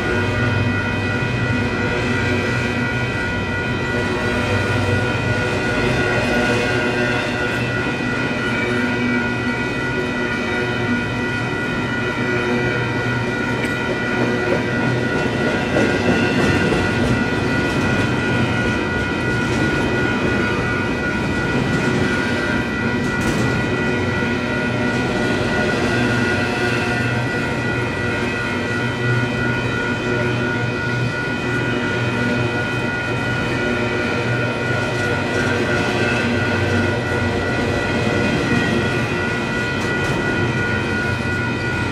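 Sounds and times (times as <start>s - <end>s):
crossing warning bells ringing: 0.0s - 41.9s
train wheels rumbling on rails: 0.0s - 41.9s.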